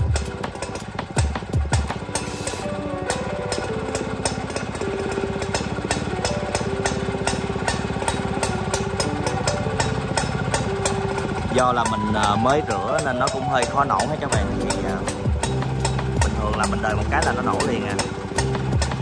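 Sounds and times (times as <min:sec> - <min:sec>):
two-stroke engine running: 0:00.0 - 0:19.0.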